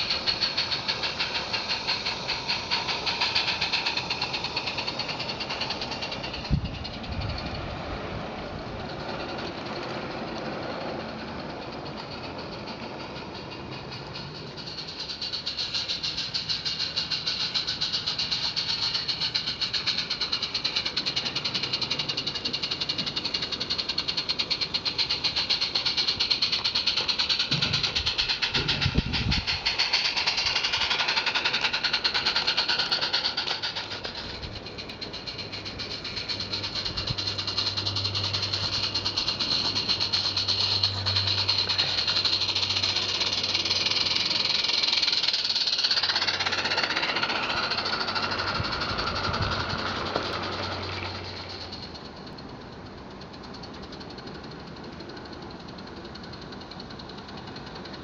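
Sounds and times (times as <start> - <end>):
steam hiss: 0.0 - 58.0
steam locomotive exhaust chuffs: 0.0 - 58.0.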